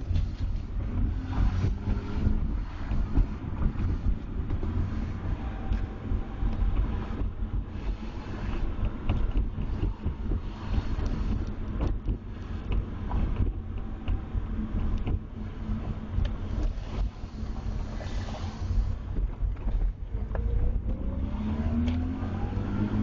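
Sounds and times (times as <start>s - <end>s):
car engine and road rumble: 0.0s - 23.0s
wind buffeting microphone: 0.0s - 23.0s.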